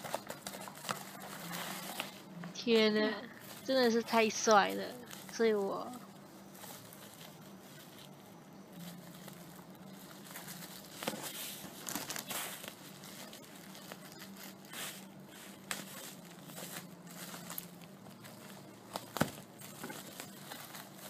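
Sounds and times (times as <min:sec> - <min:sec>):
packaging rustling and crinkling: 0:00.0 - 0:21.0.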